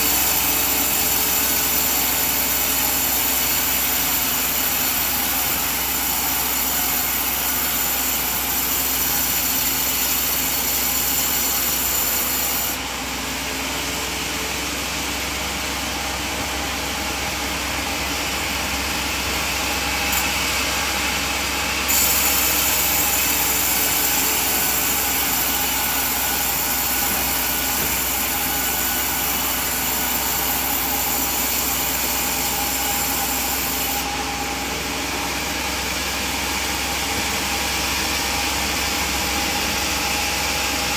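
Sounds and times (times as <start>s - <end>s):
sawmill machinery sawing log: 0.0s - 40.9s.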